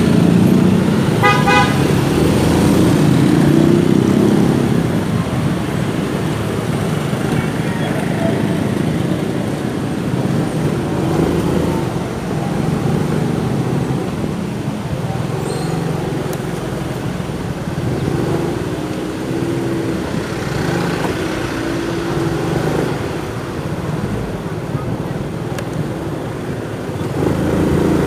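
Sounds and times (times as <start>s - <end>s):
surrounding car traffic: 0.0s - 28.0s.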